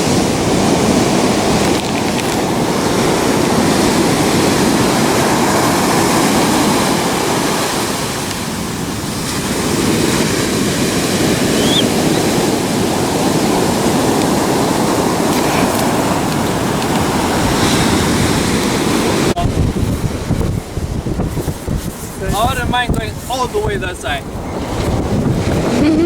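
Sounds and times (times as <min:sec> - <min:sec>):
ocean surf washing onto beach: 0:00.0 - 0:26.0
wind on microphone: 0:00.0 - 0:26.0.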